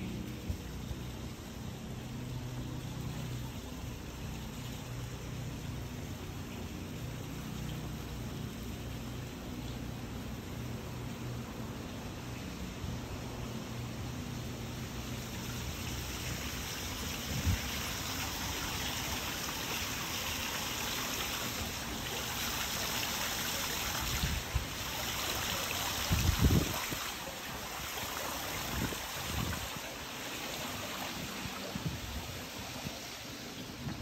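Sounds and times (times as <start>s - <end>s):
fountain water splashing into basin: 0.0s - 11.4s, 14.4s - 33.8s.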